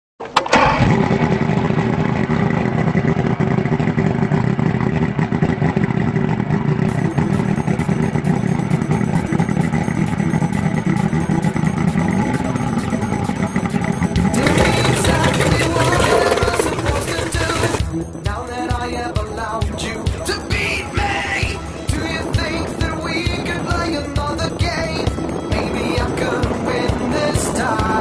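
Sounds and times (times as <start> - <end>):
outboard motor running: 0.4 - 28.0.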